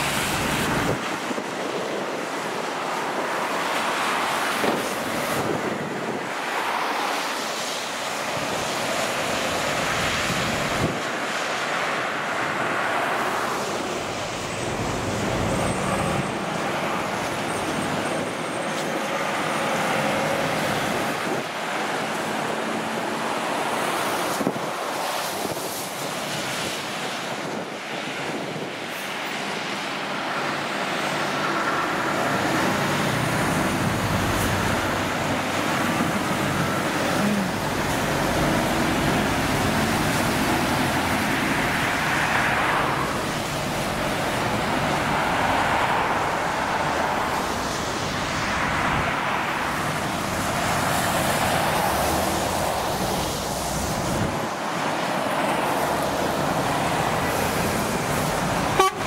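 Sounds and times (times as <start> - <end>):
motorway traffic passing: 0.0 - 59.0.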